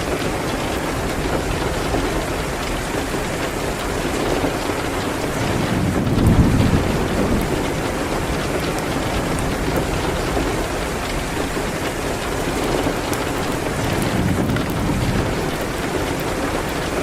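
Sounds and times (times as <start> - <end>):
rain on a window: 0.0 - 17.0
wood fire crackling: 0.0 - 17.0.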